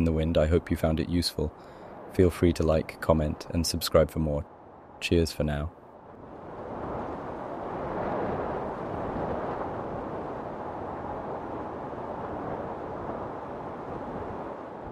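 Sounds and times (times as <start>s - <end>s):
rushing wind: 0.0s - 14.9s.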